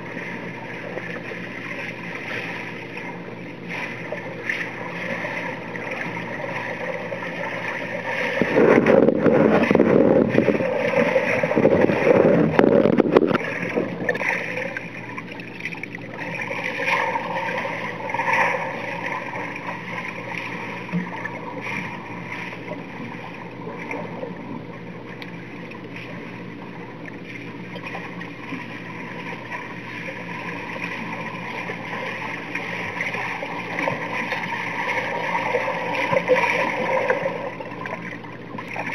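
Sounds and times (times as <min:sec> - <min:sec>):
steady hum: 0:00.0 - 0:38.9
underwater swimming churning: 0:00.0 - 0:38.9.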